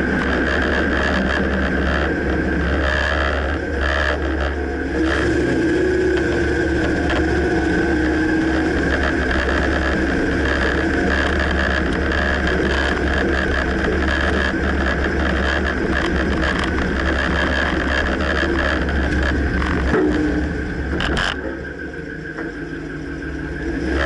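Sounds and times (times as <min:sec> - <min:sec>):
steady high whine: 0:00.0 - 0:24.0
truck engine and road noise: 0:00.0 - 0:24.0.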